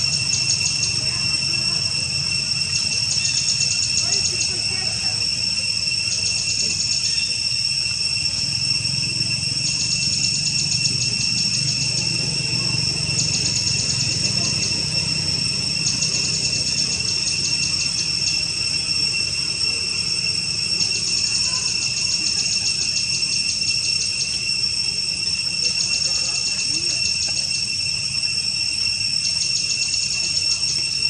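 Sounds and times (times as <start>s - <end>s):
insects droning: 0.0s - 31.0s
rapid pulsed insect chirping: 0.0s - 31.0s.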